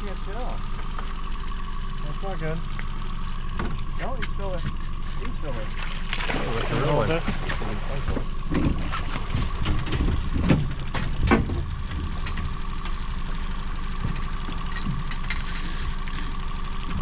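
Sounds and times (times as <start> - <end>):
boat motor rumbling: 0.0 - 17.0.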